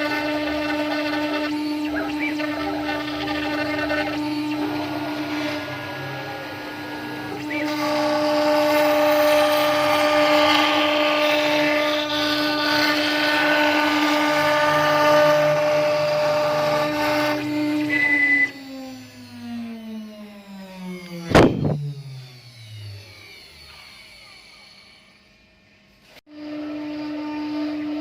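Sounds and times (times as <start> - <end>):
router spindle whining: 0.0 - 28.0.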